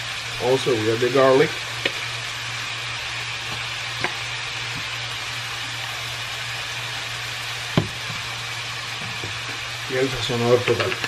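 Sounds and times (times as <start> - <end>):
beef and onions sizzling: 0.0 - 11.0.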